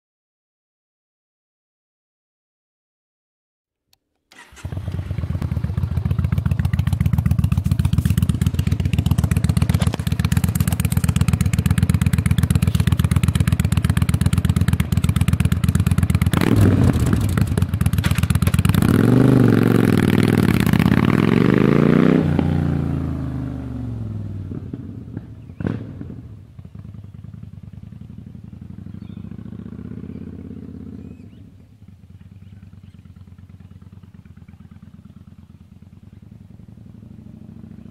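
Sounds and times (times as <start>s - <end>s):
motorcycle engine revving: 4.3s - 37.9s.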